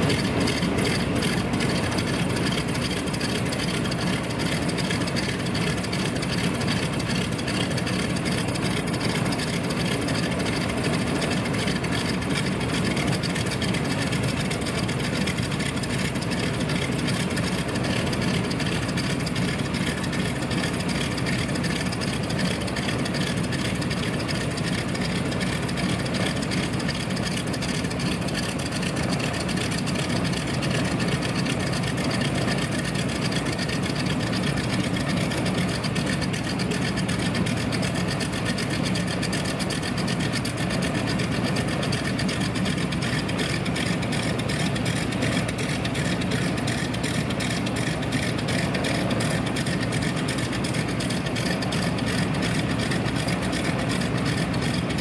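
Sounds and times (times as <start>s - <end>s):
aircraft radial engines idling: 0.0s - 55.0s.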